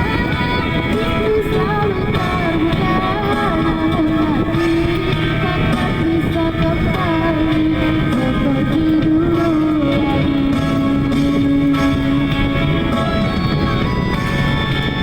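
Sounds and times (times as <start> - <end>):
guitar accompaniment: 0.0 - 15.0.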